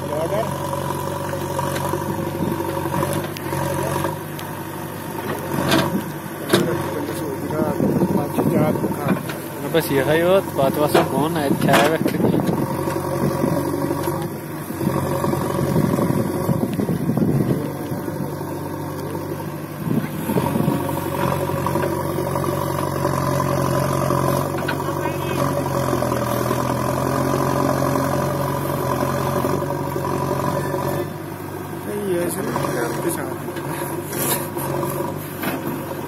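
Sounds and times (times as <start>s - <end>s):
diesel engine running: 0.0s - 36.0s
digger arm digging soil: 0.4s - 31.2s, 32.3s - 36.0s.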